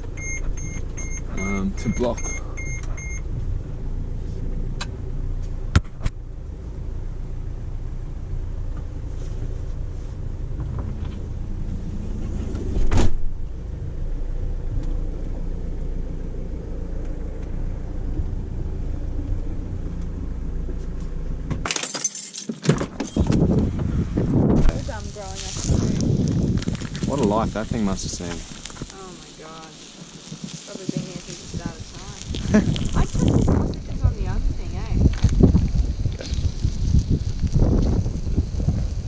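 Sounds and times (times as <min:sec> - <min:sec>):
van engine rumbling: 0:00.0 - 0:21.7, 0:22.7 - 0:39.0.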